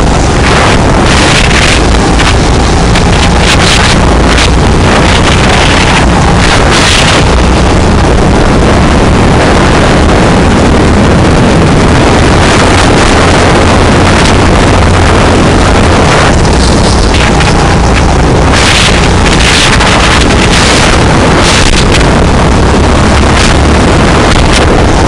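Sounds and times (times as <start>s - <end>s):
go-kart engine running: 0.0s - 25.0s
wind rushing over microphone: 0.0s - 25.0s.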